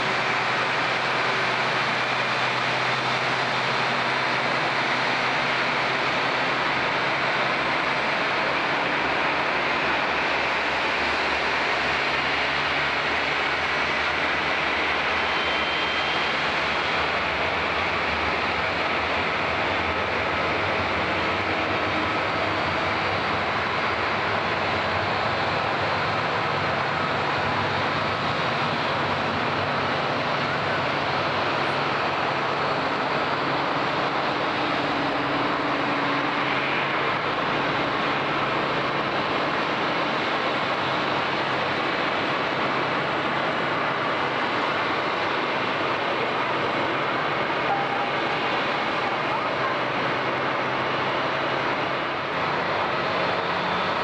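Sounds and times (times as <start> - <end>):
jet aircraft engine rush: 0.0 - 54.0.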